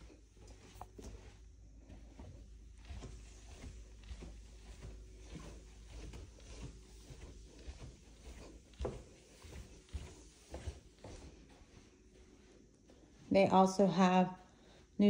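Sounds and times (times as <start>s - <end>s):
footsteps on carpeted stairs: 0.0s - 13.4s
footsteps on tile floor: 0.0s - 13.9s.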